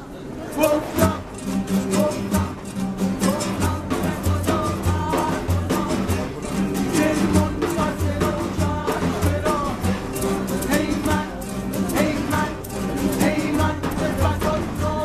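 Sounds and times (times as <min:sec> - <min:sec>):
acoustic guitars strummed: 0:00.3 - 0:15.0
man singing: 0:00.5 - 0:15.0
frame drum beating: 0:01.0 - 0:15.0.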